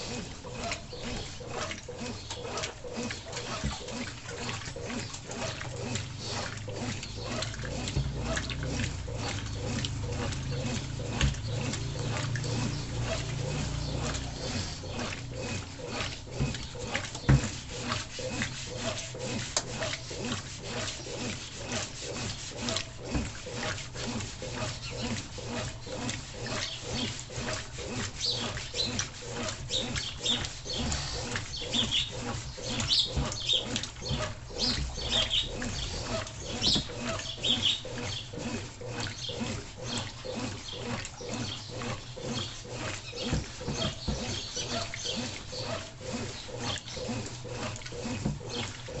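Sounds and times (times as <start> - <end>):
washing machine motor hum: 0.0 - 49.0
water and clothes churning: 0.0 - 49.0.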